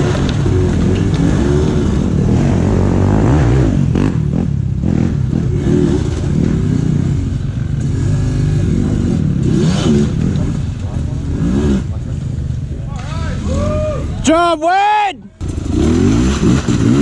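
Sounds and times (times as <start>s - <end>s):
dirt bike engine revving: 0.0s - 14.2s, 15.4s - 17.0s.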